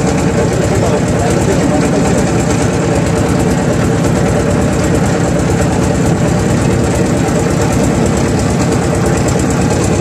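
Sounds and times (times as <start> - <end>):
motor boat engine throbbing: 0.0 - 10.0.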